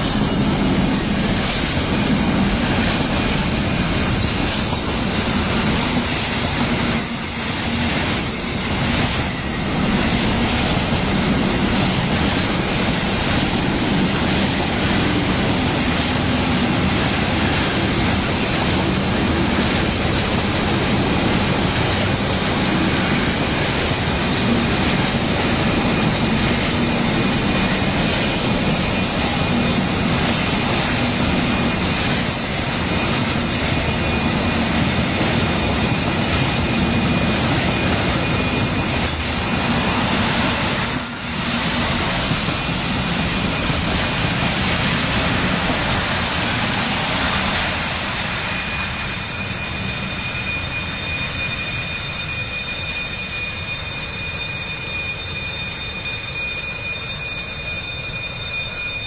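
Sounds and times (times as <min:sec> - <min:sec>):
freight train wheels rumbling on rail: 0:00.0 - 0:59.0
high tones from train wheels: 0:00.0 - 0:59.0.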